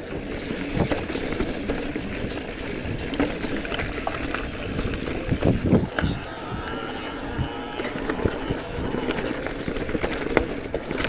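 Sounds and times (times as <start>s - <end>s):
bike rattle: 0.0s - 11.0s
bike tyres rumbling on dirt: 0.0s - 11.0s.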